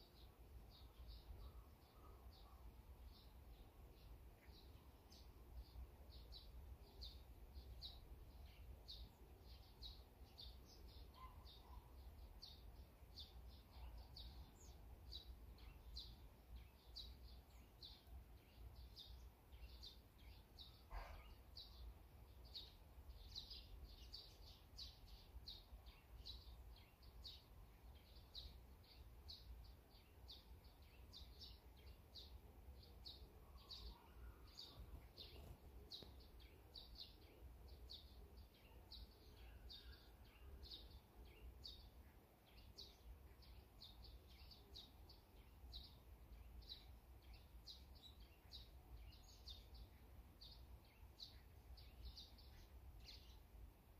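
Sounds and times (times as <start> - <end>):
songbird high chirps: 0.0 - 53.9.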